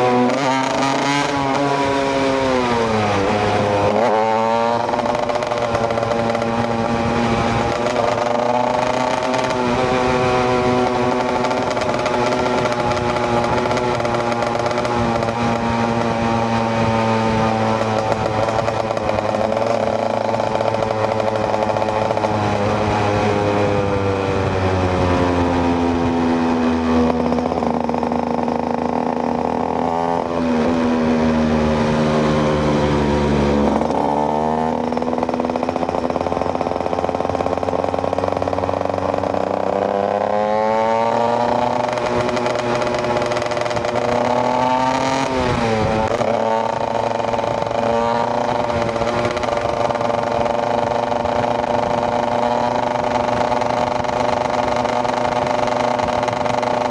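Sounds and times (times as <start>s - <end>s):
two-stroke motorcycle engine: 0.0s - 56.9s.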